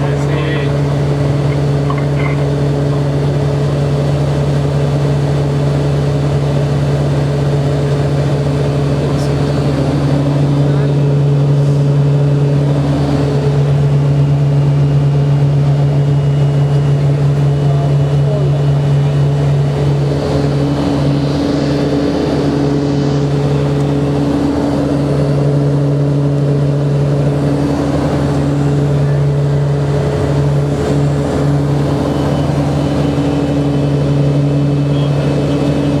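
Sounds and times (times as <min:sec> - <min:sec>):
turboprop engines droning: 0:00.0 - 0:36.0.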